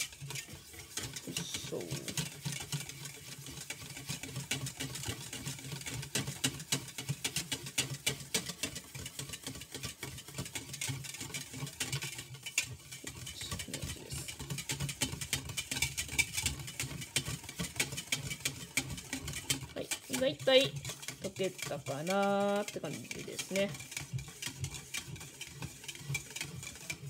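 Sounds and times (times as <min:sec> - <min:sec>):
whisk beating liquid in metal bowl: 0:00.0 - 0:27.0.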